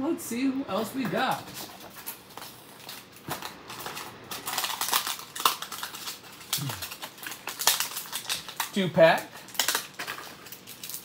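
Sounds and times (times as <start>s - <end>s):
toy package tearing and crackling: 1.6s - 11.0s.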